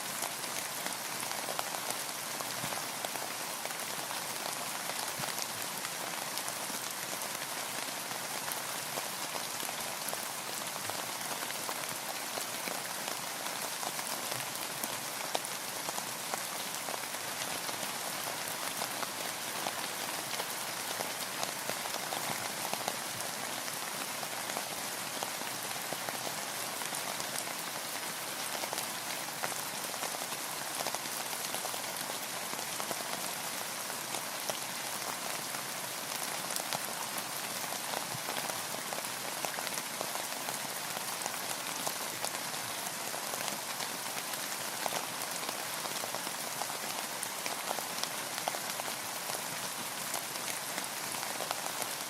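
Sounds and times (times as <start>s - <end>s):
rain falling on a boat: 0.0s - 52.0s.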